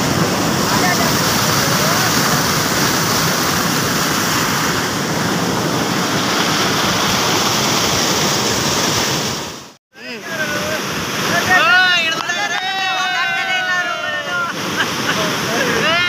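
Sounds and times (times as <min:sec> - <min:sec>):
rushing water through rapids: 0:00.0 - 0:16.0.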